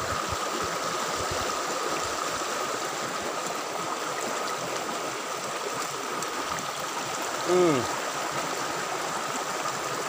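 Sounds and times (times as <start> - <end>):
stream water rushing over stones: 0.0 - 10.0.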